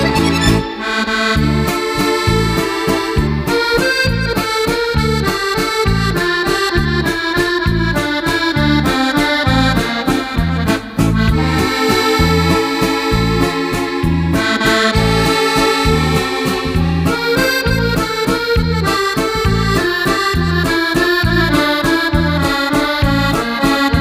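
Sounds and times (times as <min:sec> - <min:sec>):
accordion music: 0:00.0 - 0:24.0
rhythmic bass: 0:00.0 - 0:24.0.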